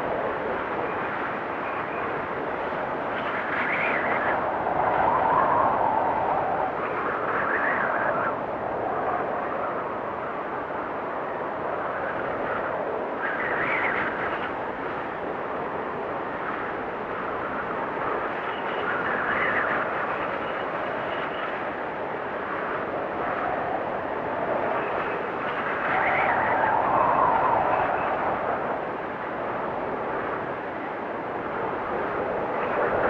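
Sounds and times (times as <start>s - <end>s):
blizzard wind blowing hard: 0.0s - 33.0s
faint high wind whistle: 0.0s - 33.0s.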